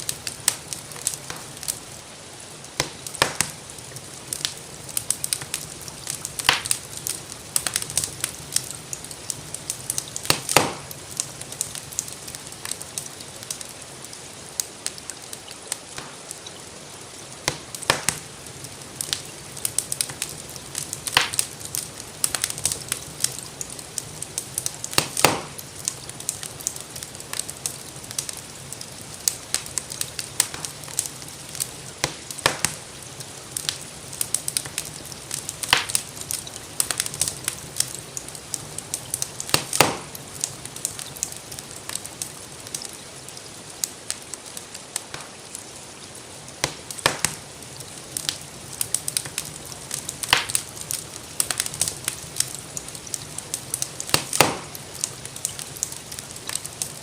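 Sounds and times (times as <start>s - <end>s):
fire crackling and popping: 0.0s - 57.0s
gentle rain hiss: 0.0s - 57.0s.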